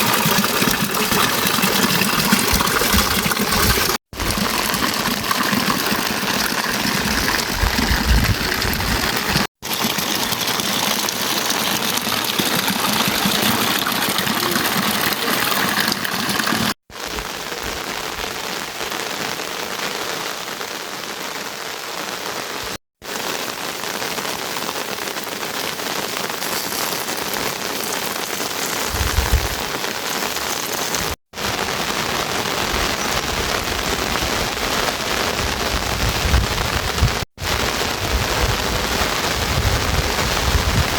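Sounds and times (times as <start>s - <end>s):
heavy rain hissing: 2.7s - 40.9s.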